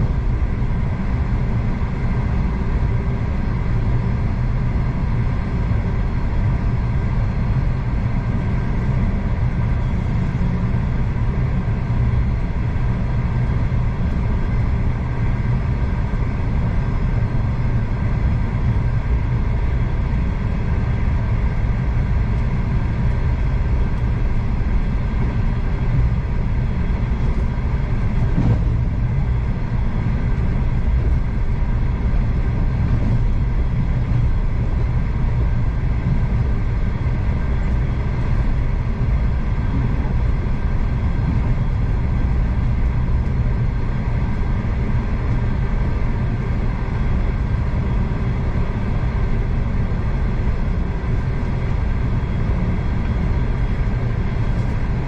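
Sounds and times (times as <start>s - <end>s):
faint steady whine: 0.0s - 55.0s
train wheels rumbling on rail: 0.0s - 55.0s.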